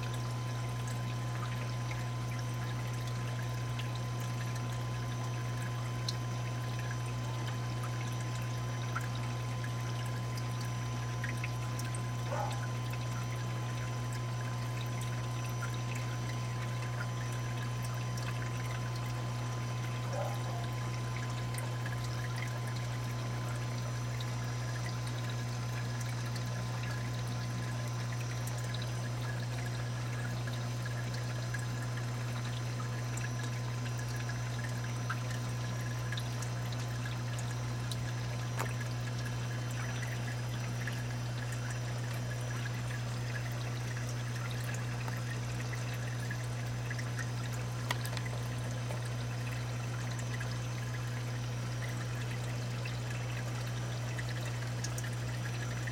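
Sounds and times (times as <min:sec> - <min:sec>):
steady low hum: 0:00.0 - 0:55.9
water trickling and pouring: 0:00.0 - 0:55.9.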